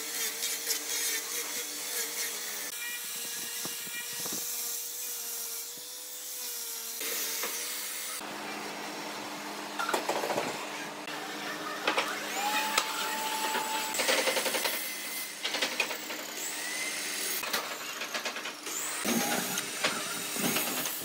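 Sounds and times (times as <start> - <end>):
angle grinder sanding wood: 0.0 - 9.4, 10.7 - 18.0, 18.6 - 21.0.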